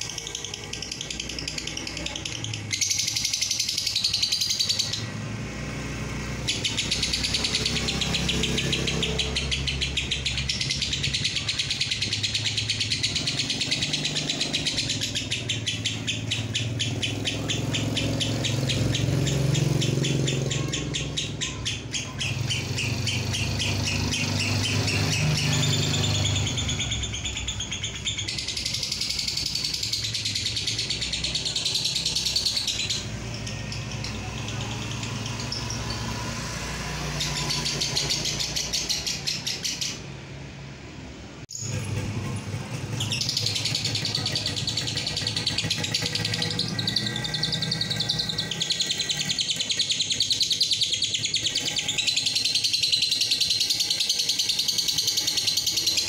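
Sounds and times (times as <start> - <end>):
lovebird chattering: 0.0 - 5.2, 6.1 - 40.2, 41.5 - 56.0.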